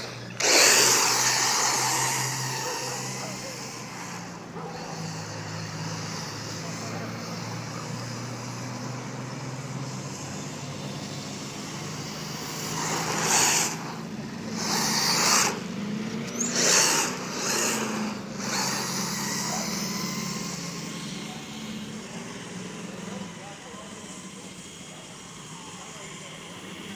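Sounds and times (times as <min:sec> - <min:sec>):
toy car driving on asphalt: 0:00.0 - 0:26.9.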